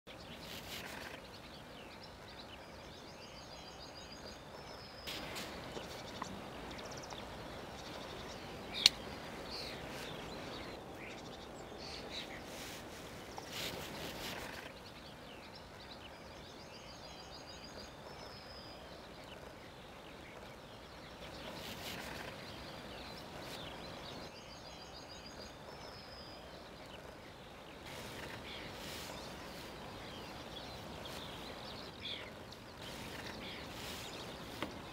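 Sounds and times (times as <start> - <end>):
songbirds singing: 0.1 - 34.9
steady background hiss: 0.1 - 34.9.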